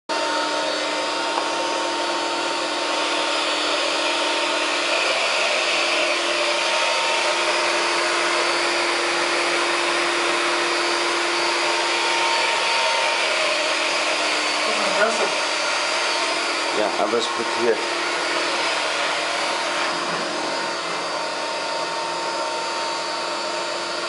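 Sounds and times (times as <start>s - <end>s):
vacuum suction rushing: 0.5s - 24.0s.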